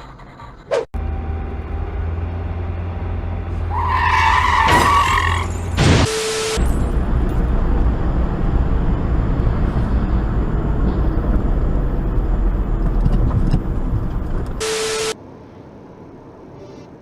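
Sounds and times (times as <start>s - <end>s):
car road and engine noise: 0.7s - 17.0s.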